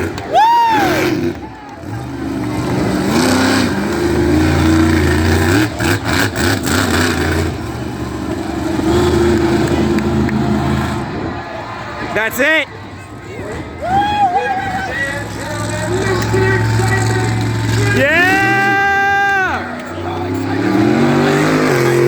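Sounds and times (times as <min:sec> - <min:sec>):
monster truck engine revving: 0:00.0 - 0:12.1, 0:13.1 - 0:22.0.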